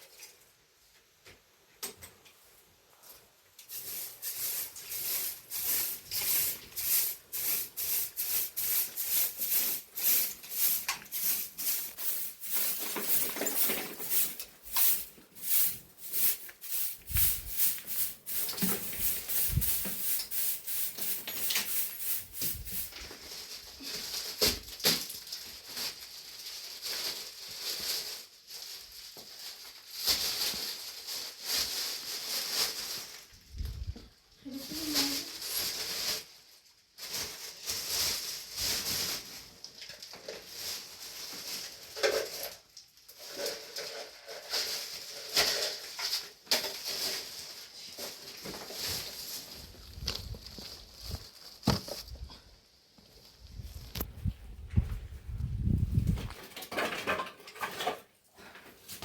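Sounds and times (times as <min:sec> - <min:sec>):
broom sweeping a hard floor: 0:02.4 - 0:33.9, 0:34.5 - 0:52.2.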